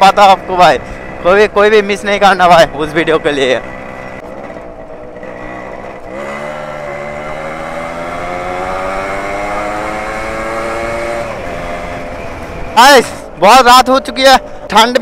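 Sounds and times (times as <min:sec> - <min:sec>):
motorcycle engine under throttle: 0:00.4 - 0:12.7.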